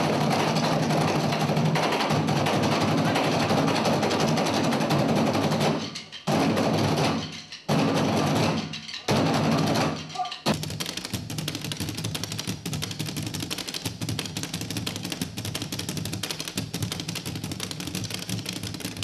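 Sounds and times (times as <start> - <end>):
drum ensemble playing fast groove: 0.0 - 19.0
full group drum strikes: 0.0 - 19.0.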